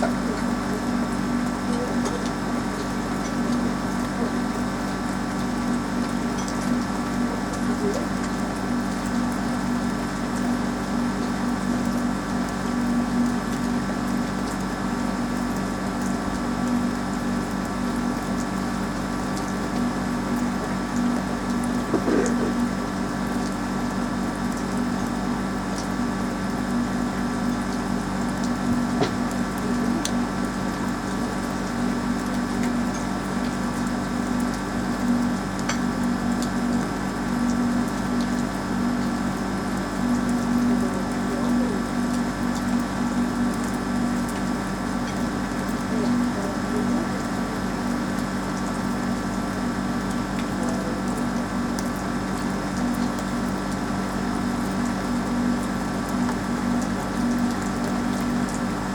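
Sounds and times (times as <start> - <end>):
machine hum: 0.0 - 58.9.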